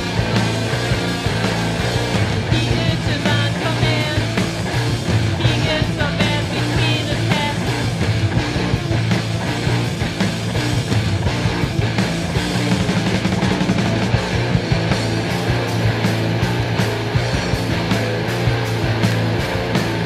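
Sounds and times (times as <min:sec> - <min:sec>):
punk rock band playing: 0:00.0 - 0:20.0.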